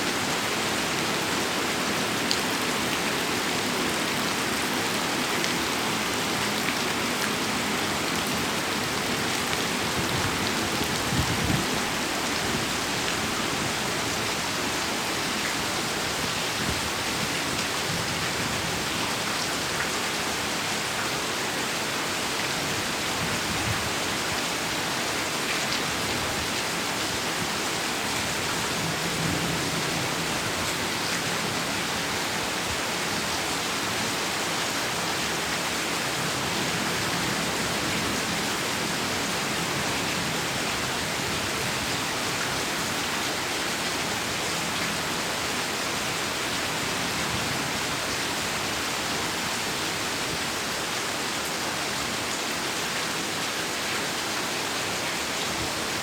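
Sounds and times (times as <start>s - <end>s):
heavy rain hissing on surfaces: 0.0s - 56.0s.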